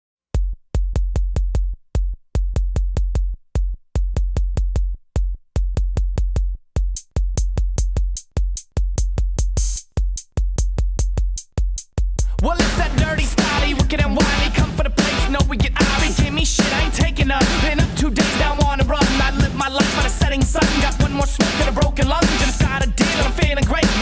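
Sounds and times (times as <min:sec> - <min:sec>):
drum machine kick-drum hits: 0:00.3 - 0:24.0.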